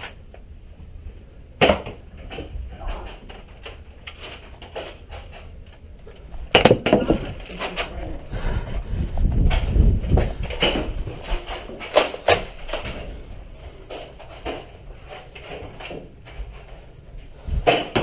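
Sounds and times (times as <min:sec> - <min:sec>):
knocks and clatter of handling: 0:01.6 - 0:08.1, 0:08.8 - 0:17.0.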